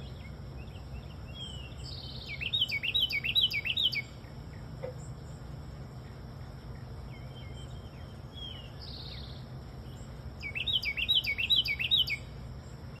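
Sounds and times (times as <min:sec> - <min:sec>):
small songbird singing: 0:00.0 - 0:13.0.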